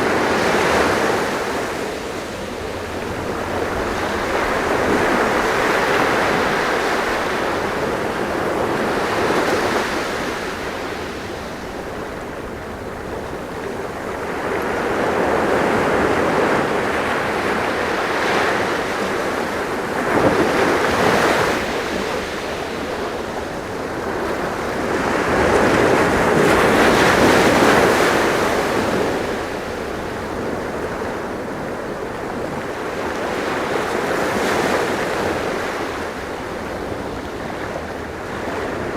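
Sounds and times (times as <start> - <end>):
sea waves washing on shore: 0.0 - 38.9
wind: 0.0 - 38.9.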